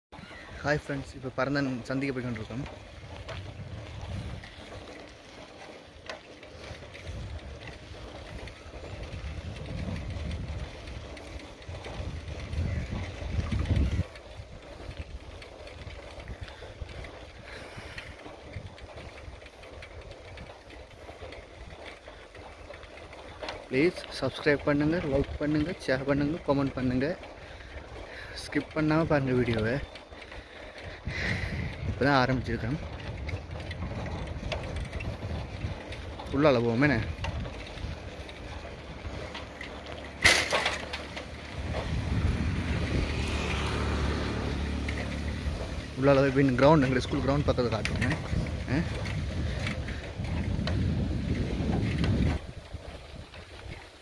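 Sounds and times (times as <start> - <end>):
bicycle rolling on paved road: 0.1 - 54.0
light clicks and rattles: 0.6 - 54.0
wind noise on microphone: 2.6 - 5.4, 6.6 - 22.4, 29.0 - 54.0.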